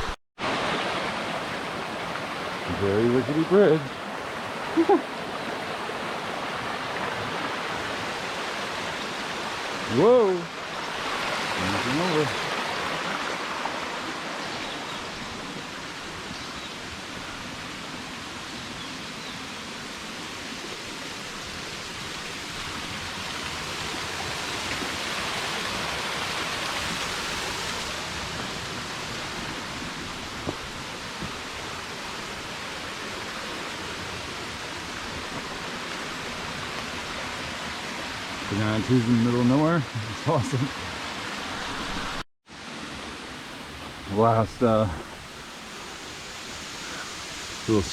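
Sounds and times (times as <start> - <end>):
flowing stream water: 0.0 - 47.9.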